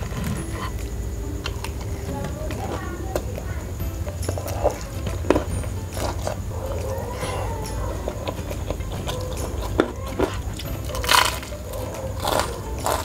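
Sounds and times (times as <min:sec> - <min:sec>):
chewing and crunching fried chicken: 0:00.0 - 0:13.0.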